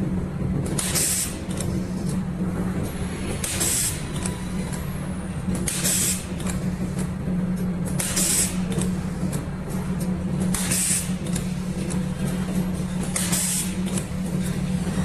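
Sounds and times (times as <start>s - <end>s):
welding machine hum: 0.0s - 15.0s.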